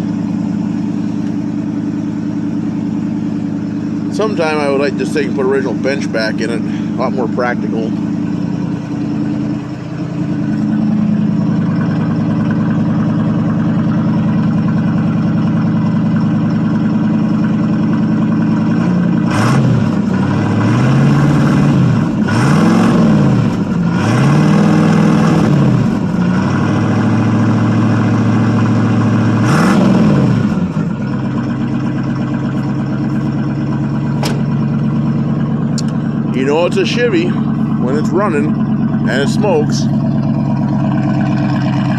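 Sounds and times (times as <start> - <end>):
pickup engine idling and revving: 0.0 - 41.9.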